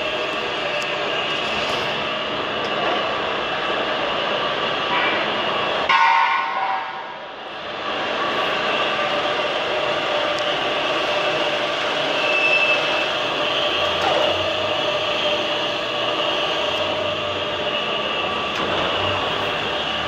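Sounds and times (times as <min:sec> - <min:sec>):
machine hum with whining tones: 0:00.0 - 0:20.0.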